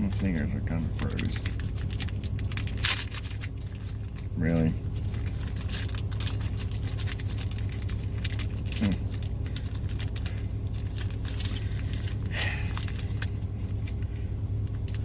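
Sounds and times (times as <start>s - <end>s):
foil pack crinkling: 0.0s - 15.0s
low car hum: 0.0s - 15.0s.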